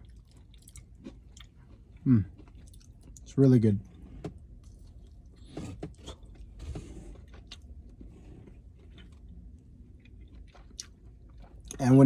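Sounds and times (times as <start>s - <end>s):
crunchy chewing: 0.0s - 3.4s, 4.2s - 11.8s.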